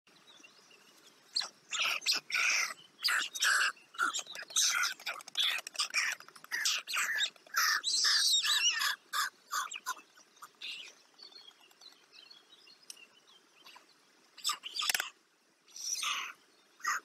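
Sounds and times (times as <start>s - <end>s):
birds chirping and calling: 0.1s - 17.0s.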